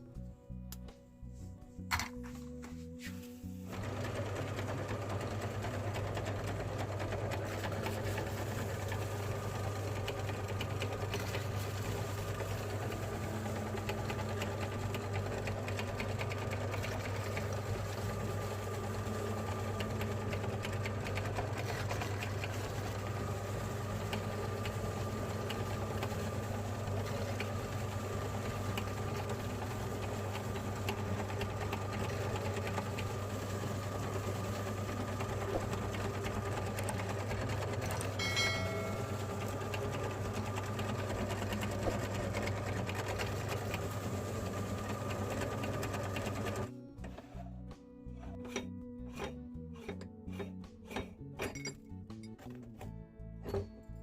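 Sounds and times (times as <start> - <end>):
electric meat grinder humming: 3.7 - 47.4.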